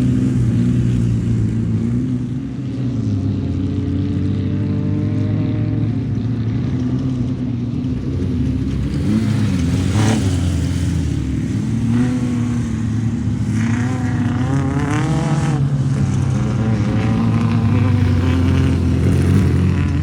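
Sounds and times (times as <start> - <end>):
race vehicle engines revving: 0.0 - 20.0.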